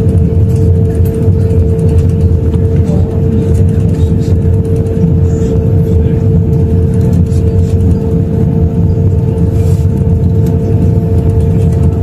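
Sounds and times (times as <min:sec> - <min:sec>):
aircraft cabin rumble and hum: 0:00.0 - 0:12.0.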